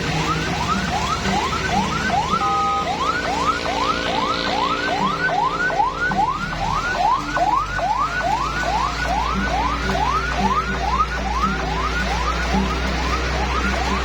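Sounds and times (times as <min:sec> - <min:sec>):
electronic whooping alarm: 0:00.0 - 0:14.0.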